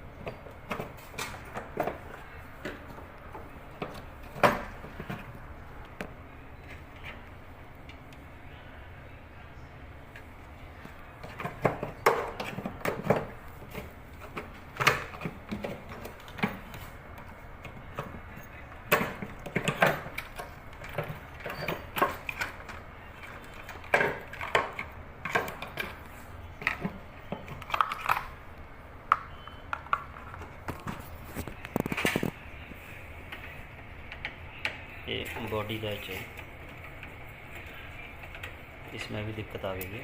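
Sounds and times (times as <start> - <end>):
microwave parts clicking and knocking: 0.0 - 8.2, 10.1 - 32.4, 33.3 - 40.0.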